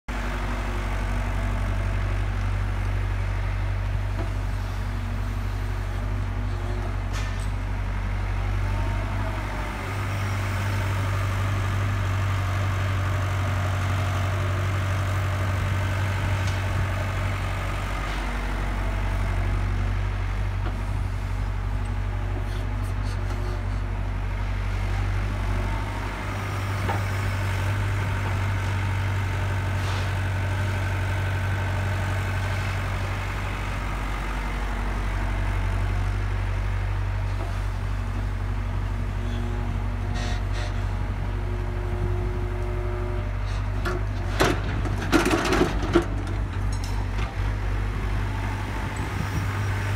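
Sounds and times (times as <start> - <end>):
excavator diesel engine running: 0.1 - 49.9.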